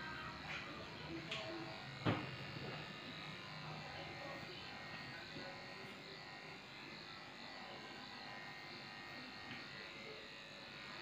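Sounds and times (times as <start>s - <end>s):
electric clippers shaving dog: 0.0s - 11.0s.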